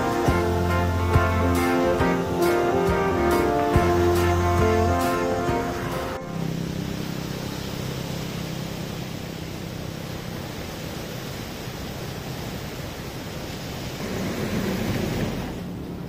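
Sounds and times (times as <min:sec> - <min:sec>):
sea surf breaking over rocks: 0:00.0 - 0:16.0.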